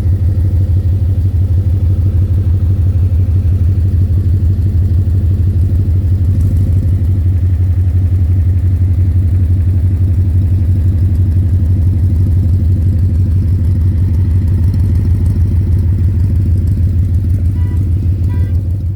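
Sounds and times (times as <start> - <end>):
car engine idling with knocking: 0.0 - 18.9.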